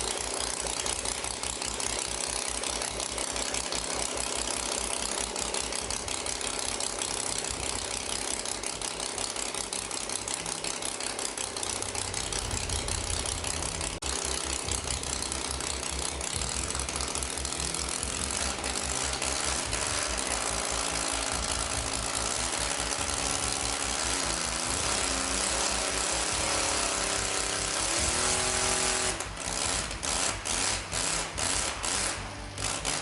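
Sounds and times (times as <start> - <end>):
model aircraft engine running: 0.0 - 33.0.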